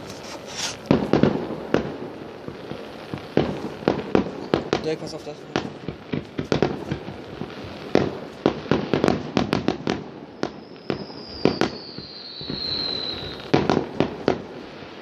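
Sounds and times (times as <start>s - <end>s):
long high firework whistle: 0.0s - 4.7s, 5.9s - 15.0s
firecrackers banging: 0.0s - 15.0s.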